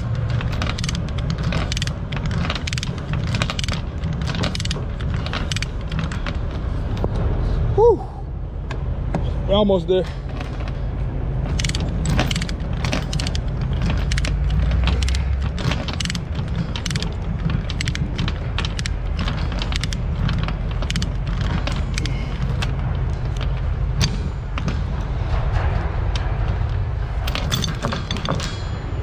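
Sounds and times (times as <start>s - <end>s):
ratchet clicking and chain rattling: 0.0s - 7.1s, 10.1s - 29.0s
steady low rumble: 0.0s - 29.0s.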